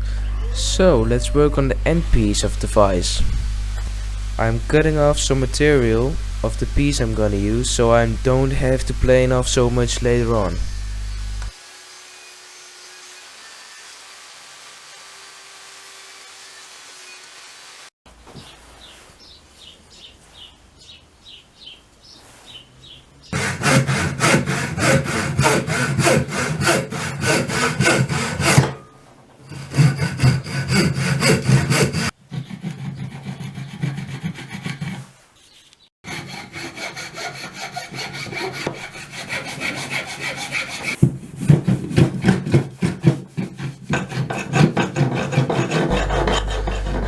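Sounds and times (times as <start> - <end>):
hand saw cutting wood: 0.6 - 17.0, 23.4 - 35.2, 36.0 - 47.0.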